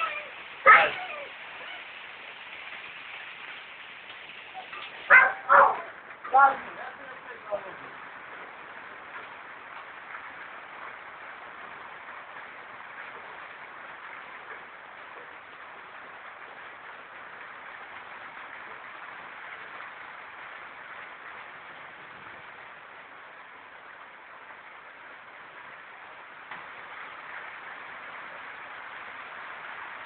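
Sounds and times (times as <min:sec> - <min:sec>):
heavy rain and hail on roofs: 0:00.0 - 0:30.0.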